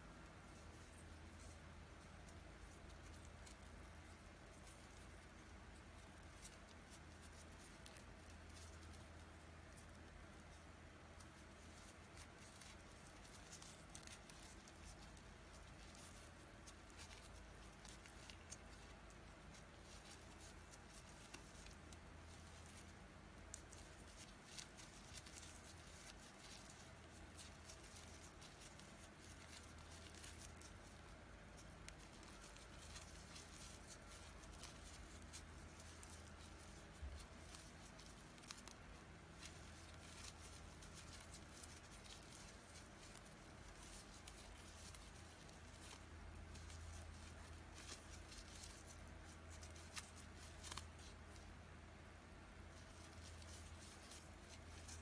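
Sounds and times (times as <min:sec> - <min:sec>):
low steady hum: 0:00.0 - 0:55.0
yarn rustling through crochet stitches: 0:00.0 - 0:55.0.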